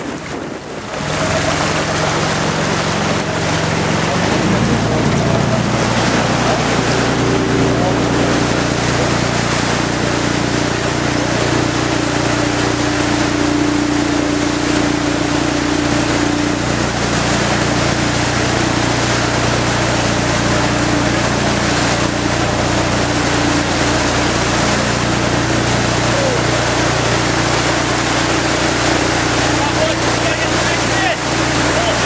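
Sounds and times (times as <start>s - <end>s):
motorboat engine: 0.0s - 32.0s
water rushing and splashing: 0.0s - 32.0s.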